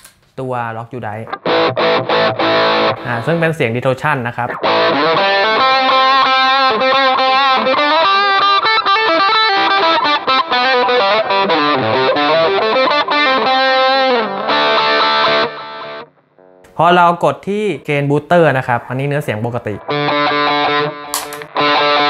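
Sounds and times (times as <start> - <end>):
distorted electric guitar lead: 1.2 - 16.8, 19.7 - 22.0.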